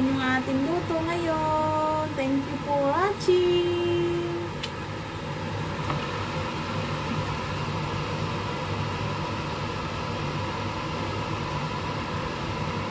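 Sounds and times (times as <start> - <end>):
fan humming: 0.0 - 12.9.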